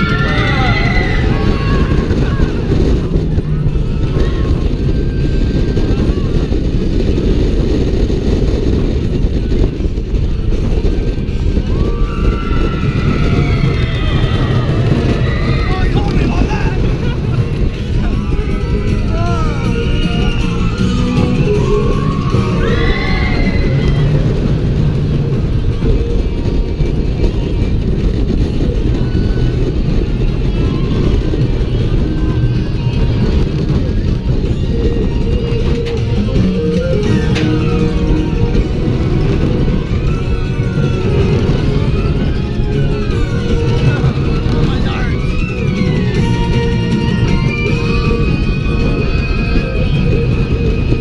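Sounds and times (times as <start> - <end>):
roller coaster rumble: 0.0 - 51.0
wind on microphone: 0.0 - 51.0.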